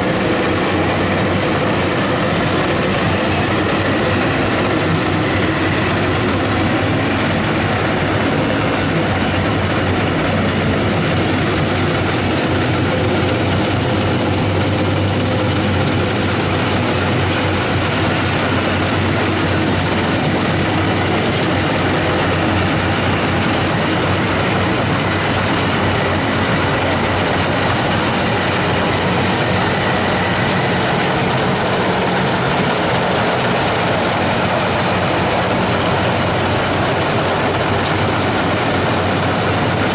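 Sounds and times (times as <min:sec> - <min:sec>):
combine harvester engine humming: 0:00.0 - 0:39.9
machinery clatter: 0:00.0 - 0:39.9.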